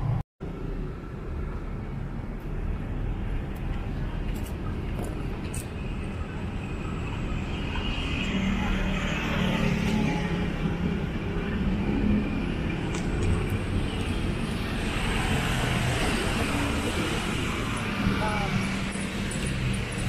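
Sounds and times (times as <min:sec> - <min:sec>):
road traffic hum: 0:00.0 - 0:20.0.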